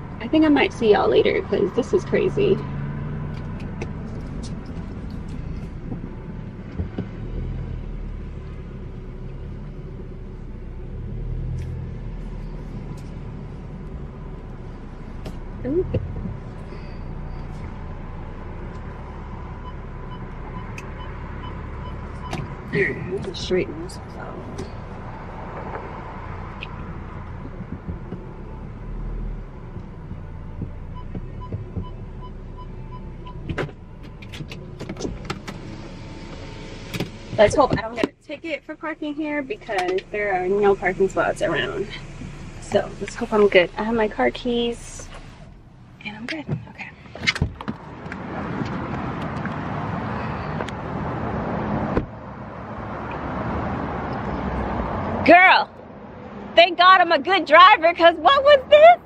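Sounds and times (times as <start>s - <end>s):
car engine and road rumble: 0.0s - 59.0s
traffic noise: 0.0s - 59.0s.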